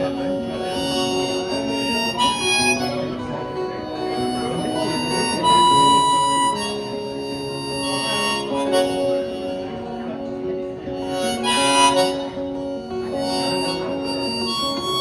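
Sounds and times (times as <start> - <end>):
harmonica melody: 0.0 - 15.0.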